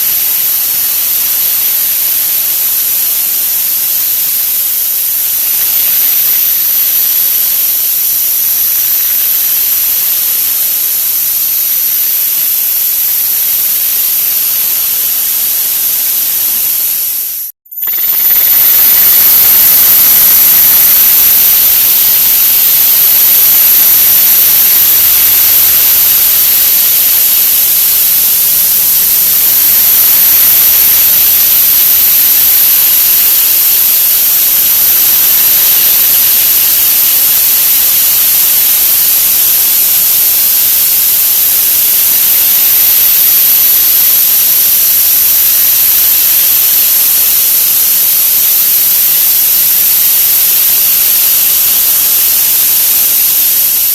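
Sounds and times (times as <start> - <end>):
high whine: 0.0 - 53.9
loud steady hiss: 0.0 - 53.9.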